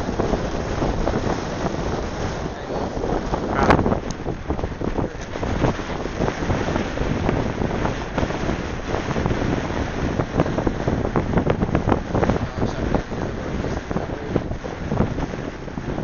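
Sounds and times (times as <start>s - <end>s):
boat moving through choppy water: 0.0s - 16.0s
wind buffeting microphone: 0.0s - 16.0s.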